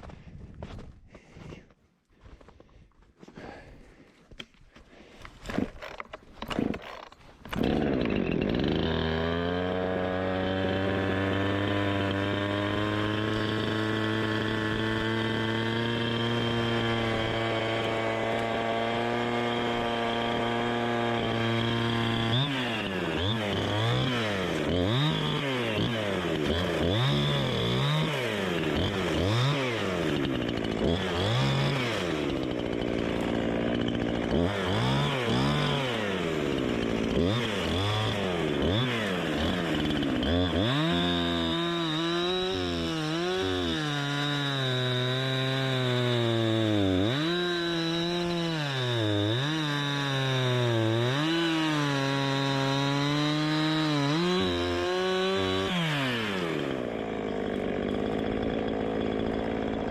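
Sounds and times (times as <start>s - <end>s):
two-stroke chainsaw revving: 5.5s - 59.9s.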